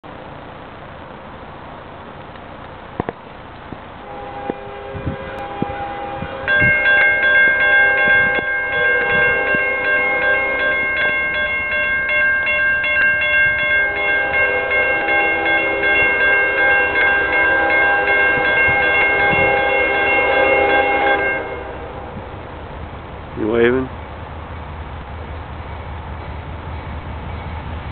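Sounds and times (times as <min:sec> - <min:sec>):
railroad crossing signal chord: 0:03.8 - 0:27.9.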